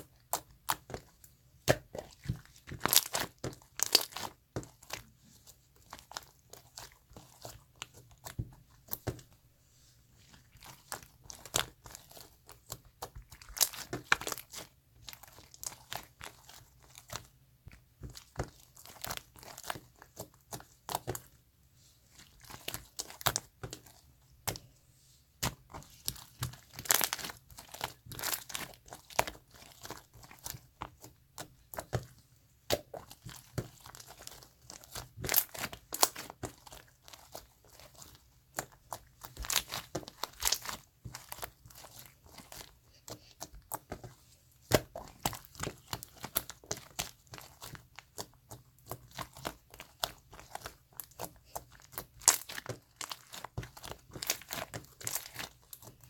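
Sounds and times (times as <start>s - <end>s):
slime squishing with sticky pops: 0.0s - 9.4s, 10.2s - 56.0s.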